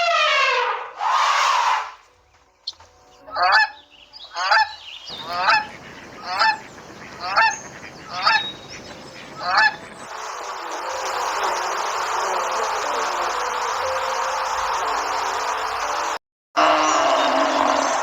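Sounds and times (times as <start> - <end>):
animal calling: 2.7 - 18.0.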